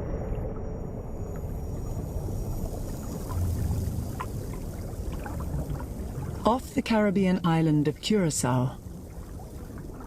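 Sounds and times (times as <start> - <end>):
rumble of moving water: 0.0 - 10.0.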